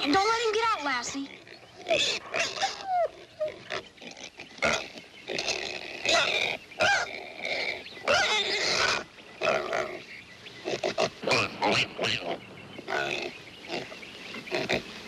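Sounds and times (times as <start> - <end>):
piglets squealing and grunting: 1.0 - 14.9.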